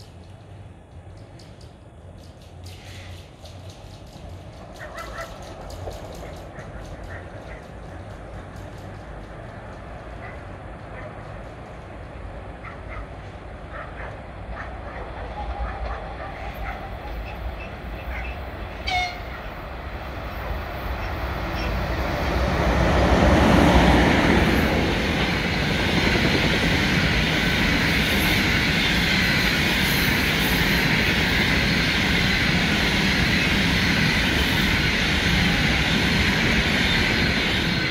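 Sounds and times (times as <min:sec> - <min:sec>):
electric locomotive passing: 0:00.0 - 0:37.9
wheels rolling on rails: 0:00.0 - 0:37.9.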